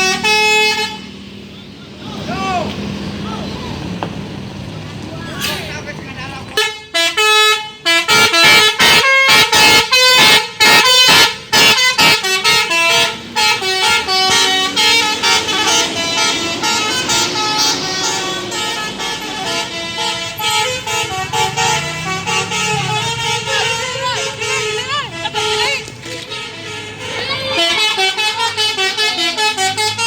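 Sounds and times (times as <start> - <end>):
musical bus air horn: 0.0 - 1.2, 6.6 - 30.0.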